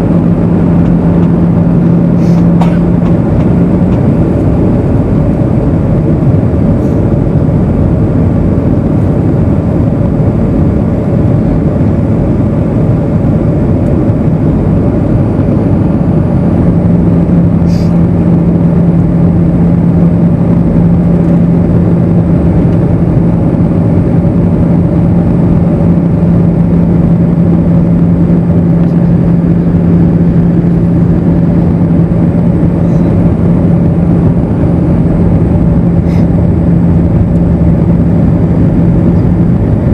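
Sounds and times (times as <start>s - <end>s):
airplane cabin air rush: 0.0s - 39.9s
low steady hum: 0.0s - 39.9s.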